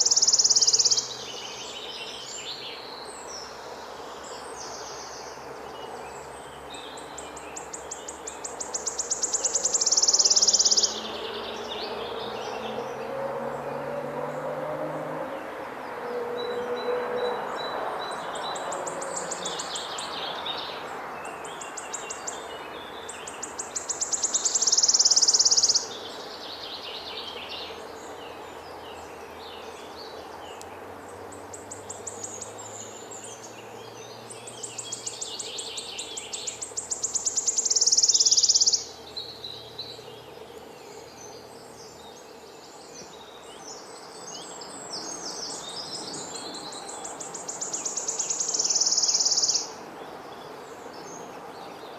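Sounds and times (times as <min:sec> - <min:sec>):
outdoor background noise: 0:00.0 - 0:51.9
songbird singing with buzzing trill: 0:00.0 - 0:51.9.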